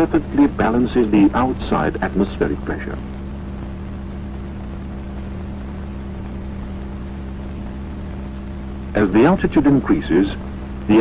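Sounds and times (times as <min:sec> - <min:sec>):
light hiss: 0:00.0 - 0:11.0
low droning hum: 0:00.0 - 0:11.0.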